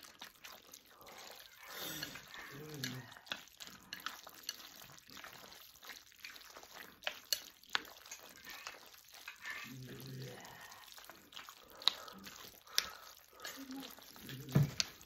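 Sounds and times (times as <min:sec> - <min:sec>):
wet squelching of noodles: 0:00.0 - 0:15.0.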